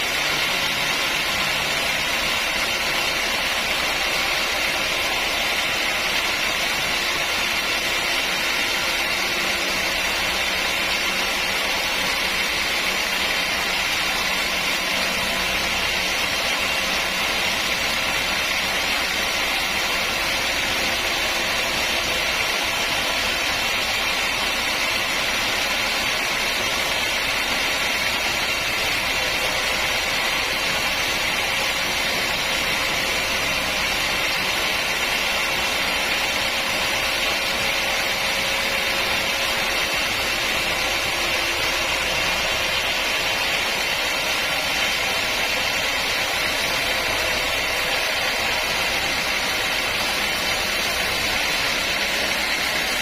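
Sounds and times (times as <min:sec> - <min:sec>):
sawmill machinery whirring: 0:00.0 - 0:53.0.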